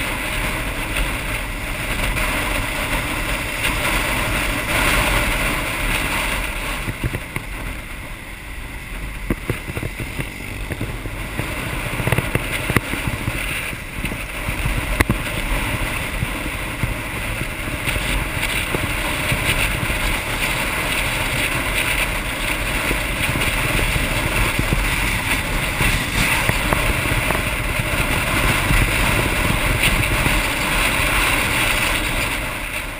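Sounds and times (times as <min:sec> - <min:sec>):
motorbike engine and road rumble: 0:00.0 - 0:32.9
wind rushing over microphone: 0:00.0 - 0:32.9.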